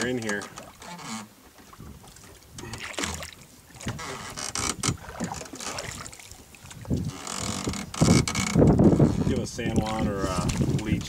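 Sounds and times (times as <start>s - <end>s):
water sloshing and splashing: 0.0s - 11.0s
wind on microphone: 1.7s - 11.0s.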